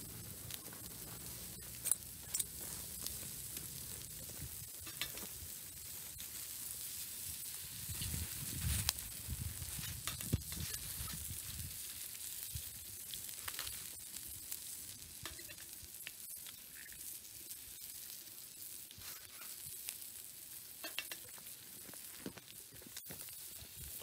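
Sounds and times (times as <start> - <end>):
bacon and onions sizzling: 0.0 - 24.0.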